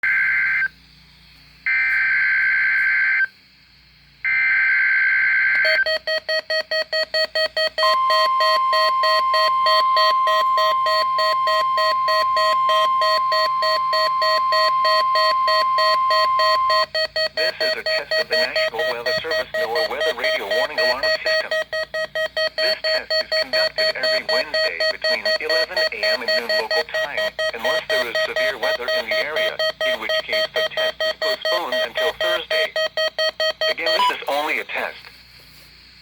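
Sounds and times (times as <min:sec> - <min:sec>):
emergency alert data bursts: 0:01.6 - 0:03.4, 0:04.2 - 0:35.0
steady warning alarm tone: 0:04.2 - 0:34.6
rapid pulsing alarm beep: 0:04.3 - 0:34.7.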